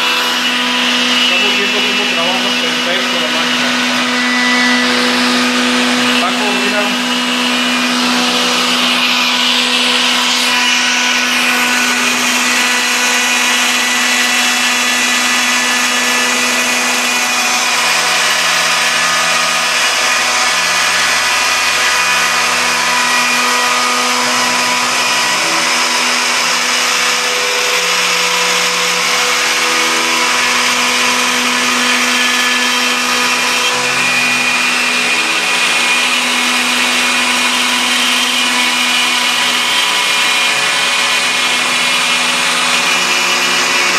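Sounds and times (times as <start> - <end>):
spindle motor whine: 0.0 - 43.9
stepper motor tones: 0.0 - 43.9.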